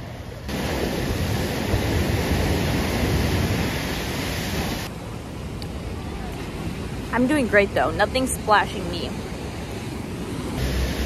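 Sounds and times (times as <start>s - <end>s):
waves splashing against a seawall: 0.1s - 11.0s.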